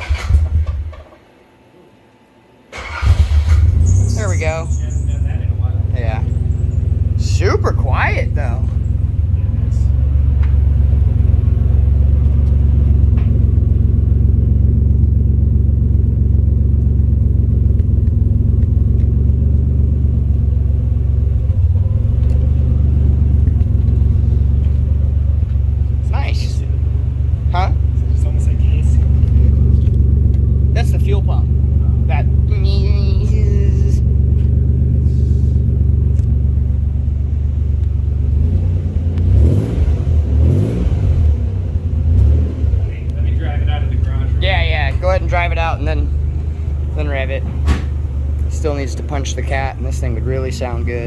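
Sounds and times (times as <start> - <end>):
car engine idling: 0.0 - 1.2, 2.8 - 51.0.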